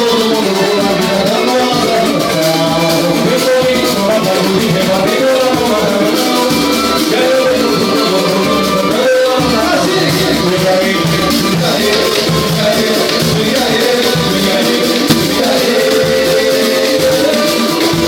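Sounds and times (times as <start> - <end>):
pitched instruments: 0.0 - 17.9
rattling shaker rhythm: 0.0 - 18.0
voices singing: 0.0 - 18.0.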